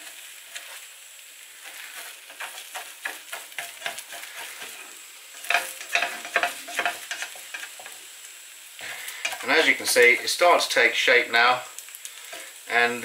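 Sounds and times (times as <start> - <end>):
spatula scraping frying pan: 0.0 - 8.2, 8.8 - 10.7, 12.2 - 13.0
omelette sizzling in oil: 0.0 - 13.0.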